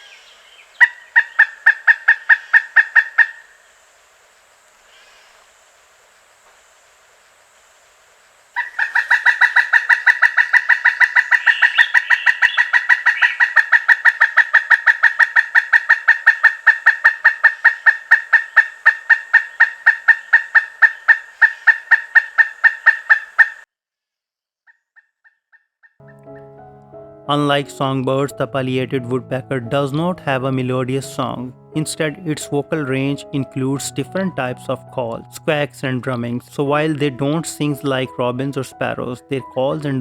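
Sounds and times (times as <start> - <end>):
woodpecker calling: 0.0 - 3.7, 8.6 - 23.6, 24.7 - 40.0.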